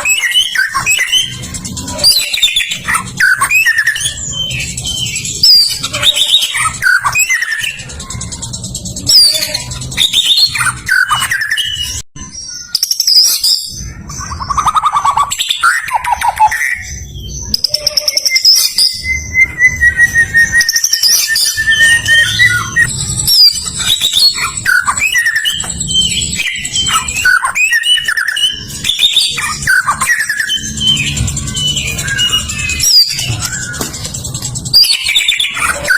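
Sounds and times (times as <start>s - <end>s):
bird singing whistled song: 0.0s - 35.9s.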